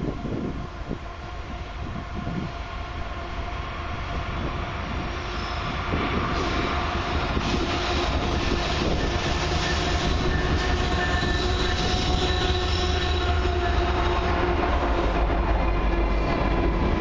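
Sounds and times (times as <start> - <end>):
diesel locomotive engines running: 0.0 - 17.0
steel wheels rumbling on rails: 0.0 - 17.0.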